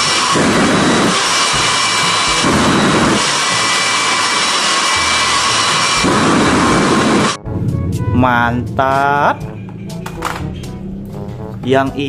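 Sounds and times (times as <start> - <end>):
jet engine roaring: 0.0 - 11.7
high turbine whine: 0.0 - 12.0.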